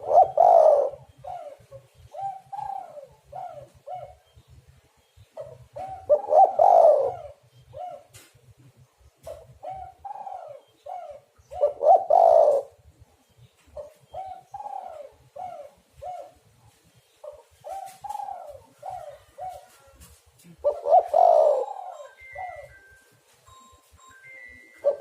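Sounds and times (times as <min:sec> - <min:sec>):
dove cooing: 0:00.0 - 0:04.3, 0:05.3 - 0:08.3, 0:09.2 - 0:12.9, 0:13.6 - 0:23.0, 0:24.6 - 0:25.0.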